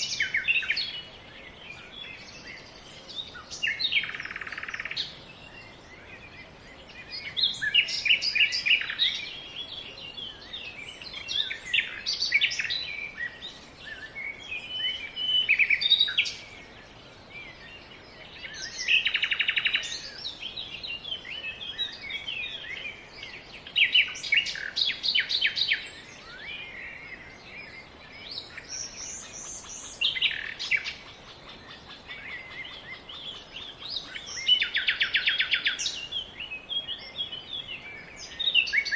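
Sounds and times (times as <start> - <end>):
faint steady hiss: 0.0 - 38.9
songbirds singing: 0.0 - 38.9.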